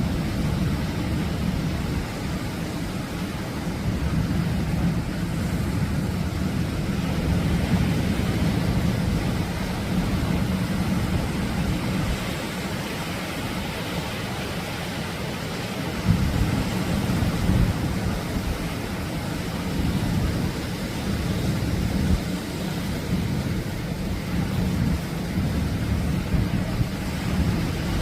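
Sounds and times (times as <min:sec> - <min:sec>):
surf breaking and washing ashore: 0:00.0 - 0:28.0.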